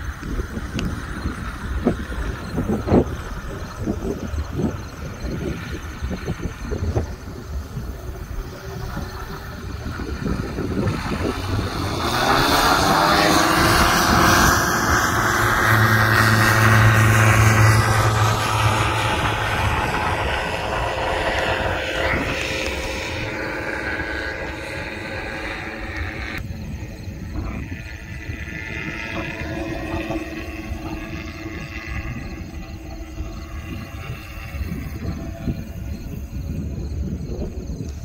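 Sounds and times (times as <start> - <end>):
aircraft engine and propeller: 0.0 - 38.0
wind buffeting microphone: 0.0 - 38.0.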